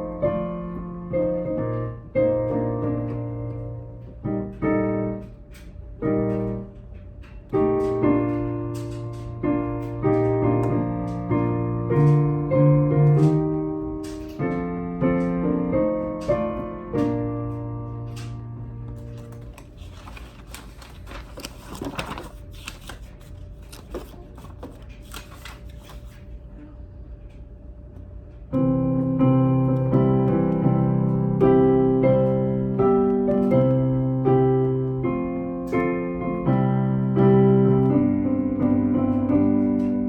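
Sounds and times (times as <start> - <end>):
piano playing a slow hymn: 0.0 - 22.4, 28.3 - 40.0.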